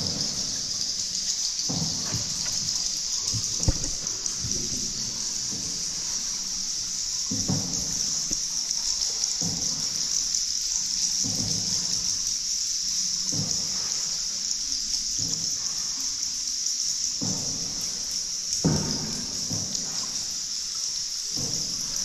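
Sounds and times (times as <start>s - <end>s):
paddle pulling through water: 0.0s - 22.0s
steady high hiss: 0.0s - 22.0s.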